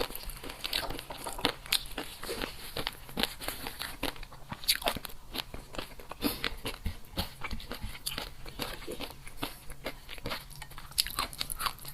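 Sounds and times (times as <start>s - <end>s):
crunchy biting and chewing: 0.0s - 11.9s.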